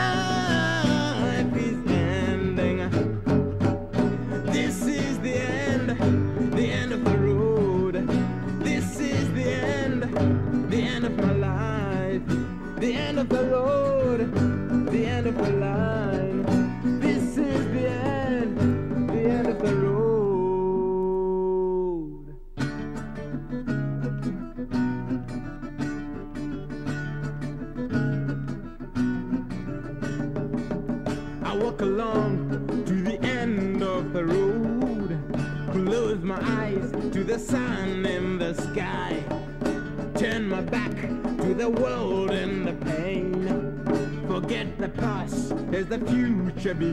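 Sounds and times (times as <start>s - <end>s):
folk-country guitar song: 0.0s - 46.9s.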